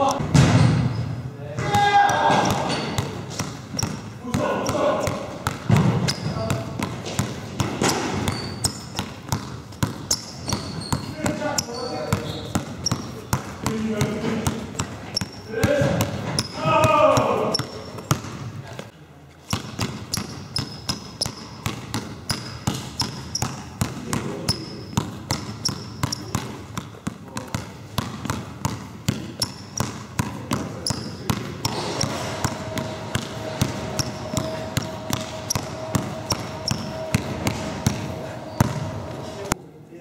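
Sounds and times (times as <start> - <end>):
basketball bouncing on wooden floor: 0.0 - 18.7, 19.5 - 39.0.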